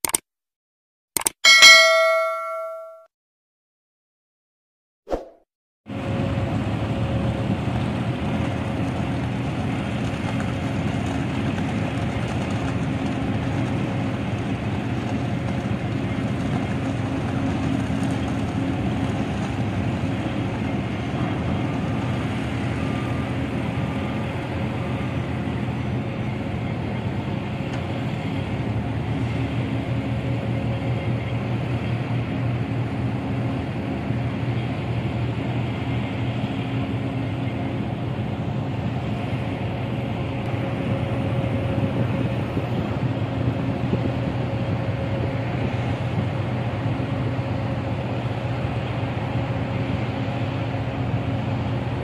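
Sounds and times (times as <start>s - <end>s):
backhoe diesel engine running: 6.0s - 52.0s.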